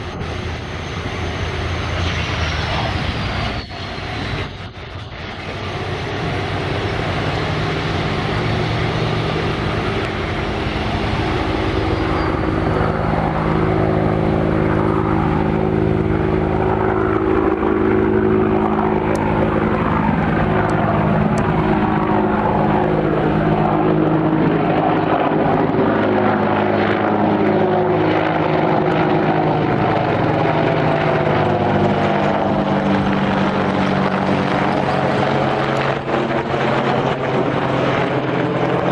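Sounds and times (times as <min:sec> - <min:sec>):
helicopter rotor noise: 0:00.0 - 0:38.9
helicopter turbine whine: 0:00.0 - 0:38.9.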